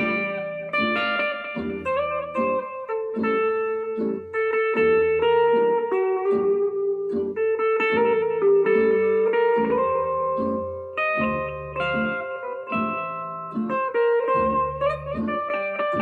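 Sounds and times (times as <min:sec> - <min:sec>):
guitar playing sustained melody: 0:00.0 - 0:16.0
plucked arpeggiated accompaniment: 0:00.0 - 0:16.0.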